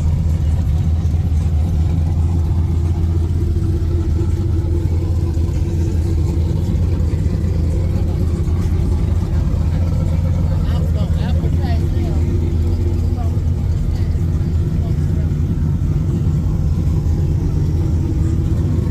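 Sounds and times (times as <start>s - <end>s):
car engine running steadily: 0.0s - 18.9s.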